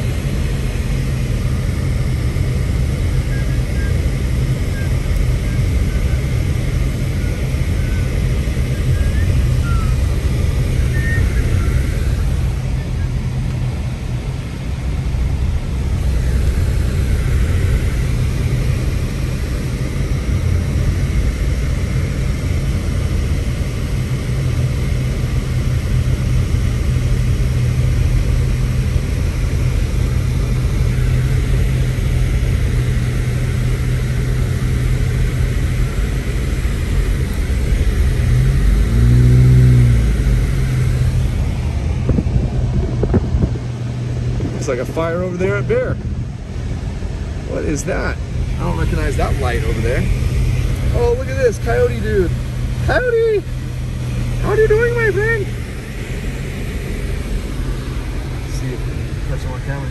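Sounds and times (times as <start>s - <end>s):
car engine and tyres drone: 0.0s - 59.9s.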